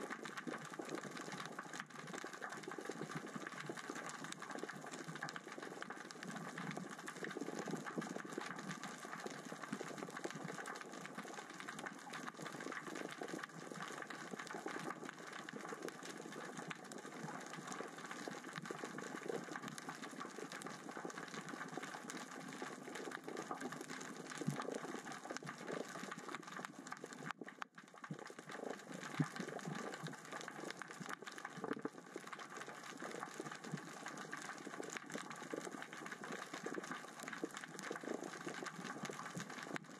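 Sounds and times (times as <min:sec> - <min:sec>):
underwater rocks clicking: 0:00.1 - 0:39.9.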